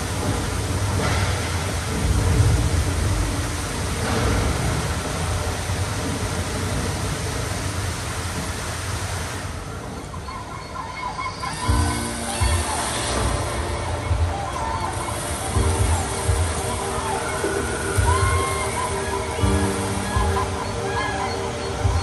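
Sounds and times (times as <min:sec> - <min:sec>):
fountain jets spraying: 0:00.0 - 0:22.0.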